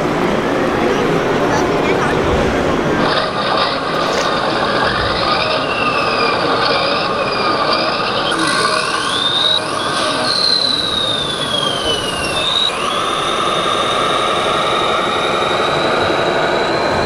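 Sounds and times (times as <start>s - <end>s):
hall background noise: 0.0s - 17.0s
electric motor and gear whine: 2.2s - 17.0s.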